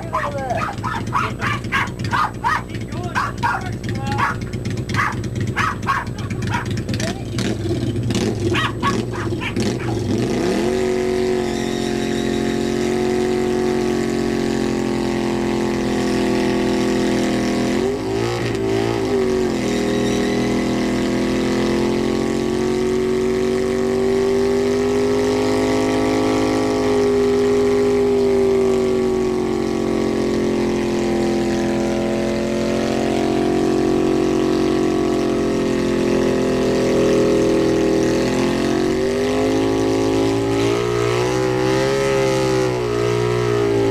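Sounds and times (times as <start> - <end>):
motorcycle engine revving high: 0.0 - 43.9.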